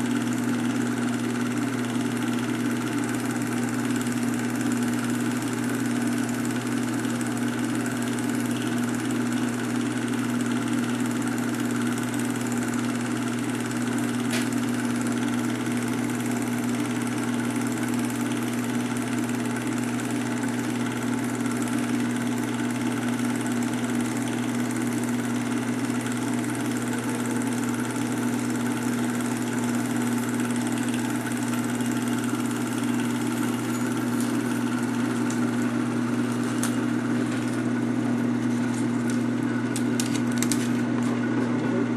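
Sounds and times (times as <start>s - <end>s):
film projector running: 0.0s - 41.9s.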